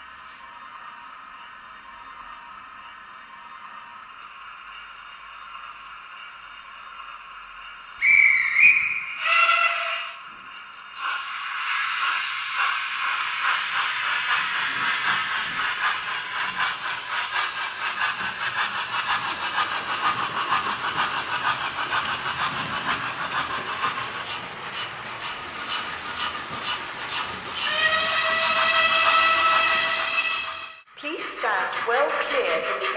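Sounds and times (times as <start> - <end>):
model steam locomotive chuffing: 0.0 - 32.9.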